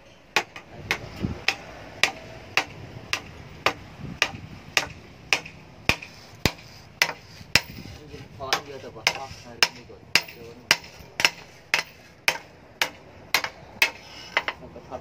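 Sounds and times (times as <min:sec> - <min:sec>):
hammer striking steel on anvil: 0:00.4 - 0:07.9, 0:08.5 - 0:14.6.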